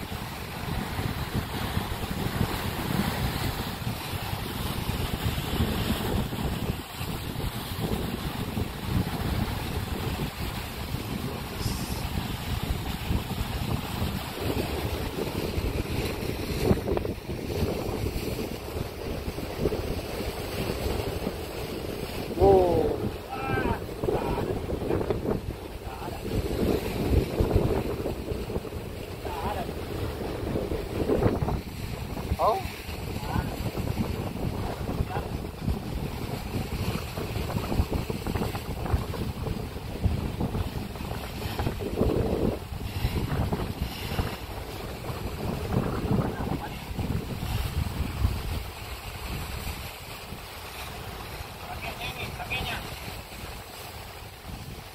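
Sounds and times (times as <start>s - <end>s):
sea surf washing: 0.0s - 54.9s
wind buffeting microphone: 0.0s - 54.9s.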